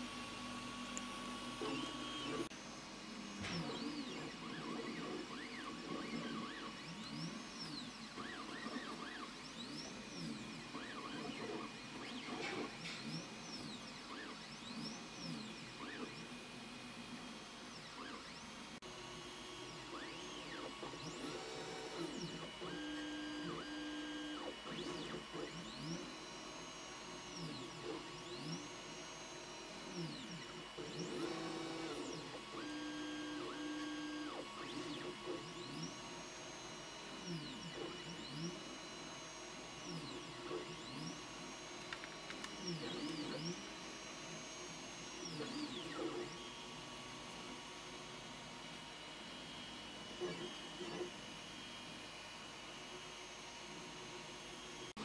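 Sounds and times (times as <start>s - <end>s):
stepper motors whining: 0.0s - 18.4s, 19.1s - 47.6s.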